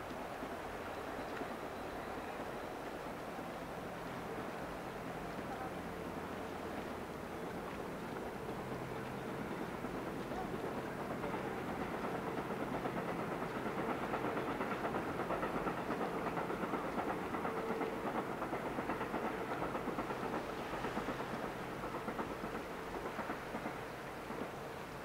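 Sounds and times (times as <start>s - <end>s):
distant train rumbling past: 0.0s - 25.0s.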